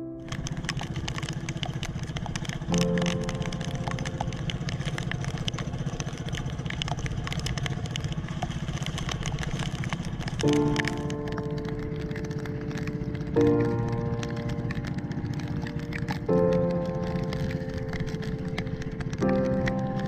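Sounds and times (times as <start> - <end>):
boat engine pulsing: 0.0 - 20.0
soft piano music: 0.0 - 20.0.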